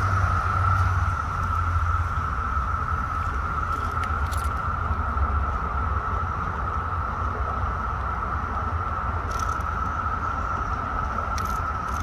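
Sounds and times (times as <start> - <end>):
cicadas droning: 0.0 - 12.0
low rumble: 0.0 - 12.0.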